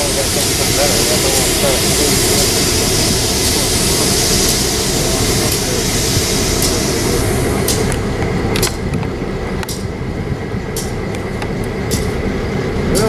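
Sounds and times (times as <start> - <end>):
train rumbling and hissing: 0.0 - 13.0
train wheels clicking over rails: 0.0 - 13.0.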